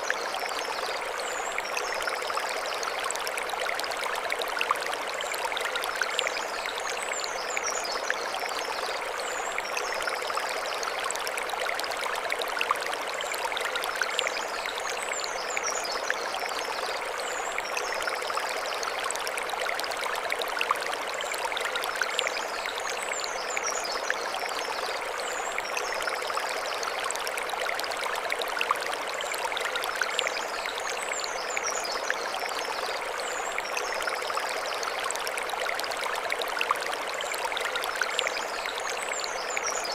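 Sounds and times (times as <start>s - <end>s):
mountain stream flowing over stones: 0.0s - 39.9s.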